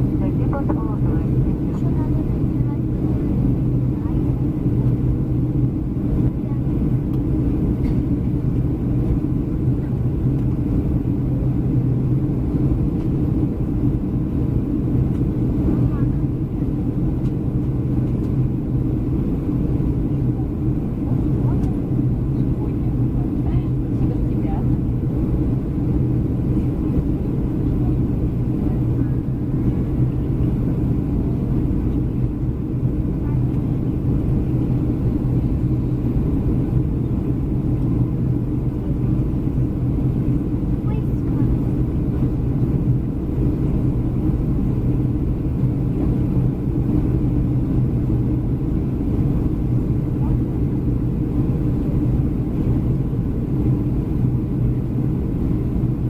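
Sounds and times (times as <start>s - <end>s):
airplane cabin engine rumble: 0.0s - 56.0s
constant low hum: 0.0s - 56.0s.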